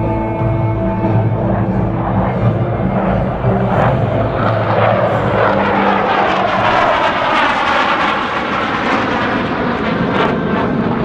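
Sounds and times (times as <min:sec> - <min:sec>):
fighter jet engines roaring: 0:00.0 - 0:11.0.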